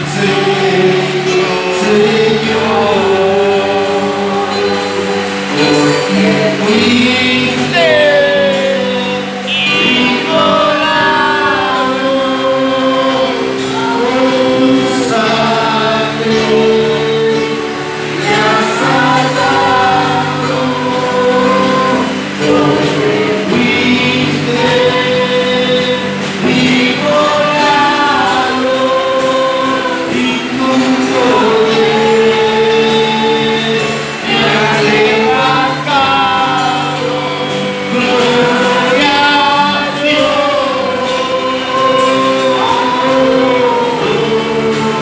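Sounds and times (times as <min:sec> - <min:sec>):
group of voices singing: 0:00.0 - 0:45.0
held accompaniment chords: 0:00.0 - 0:45.0.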